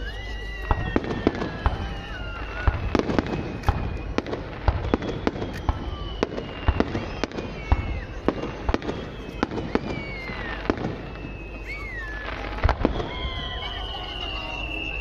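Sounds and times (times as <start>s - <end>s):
firework bangs and crackling: 0.0s - 15.0s
firework whistling: 0.0s - 15.0s.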